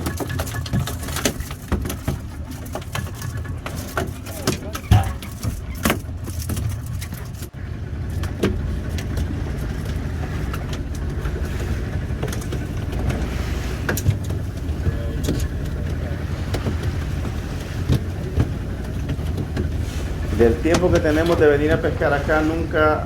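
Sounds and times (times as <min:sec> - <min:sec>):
light clicks and knocks: 0:00.0 - 0:22.4.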